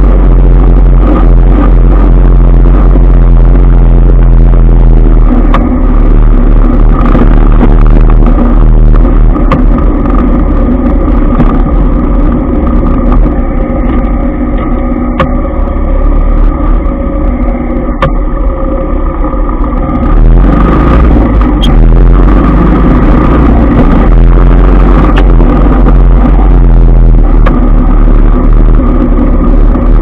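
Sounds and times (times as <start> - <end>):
motorcycle engines rumbling: 0.0 - 30.0.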